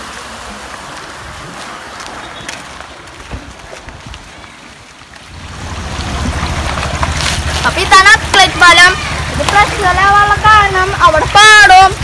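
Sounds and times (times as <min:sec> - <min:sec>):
footsteps on wet road: 0:00.0 - 0:11.7.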